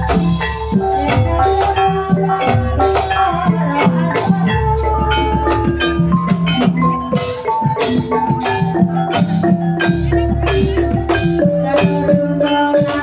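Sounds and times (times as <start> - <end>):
drumming: 0.0 - 13.0
gamelan metallophones melody: 0.0 - 13.0.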